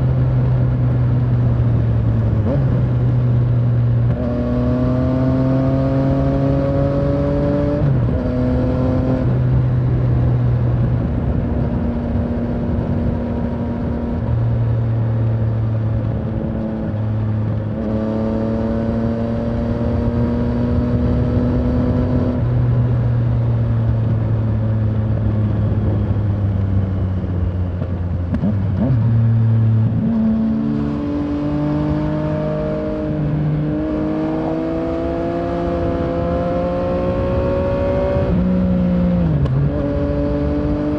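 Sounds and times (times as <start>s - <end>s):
motorcycle engine under way: 0.1s - 40.9s.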